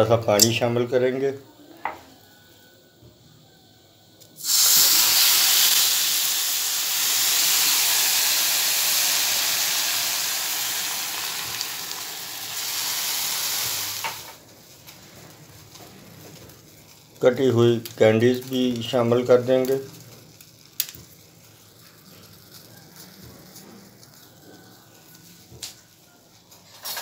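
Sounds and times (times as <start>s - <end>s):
sugar sizzling in a hot pan: 2.1s - 27.0s.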